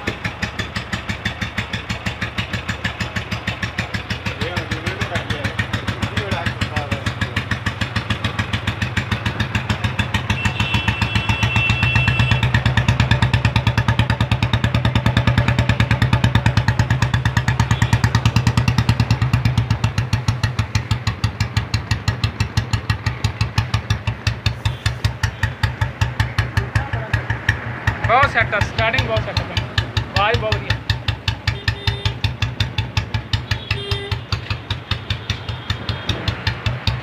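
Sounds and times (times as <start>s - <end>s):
single-cylinder engine running: 0.0s - 37.0s.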